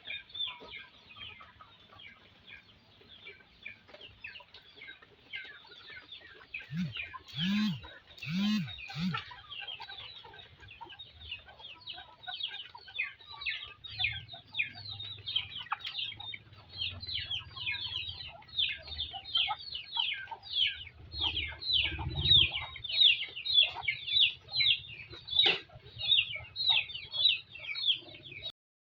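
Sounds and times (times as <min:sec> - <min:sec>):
chickens calling: 0:00.0 - 0:28.5.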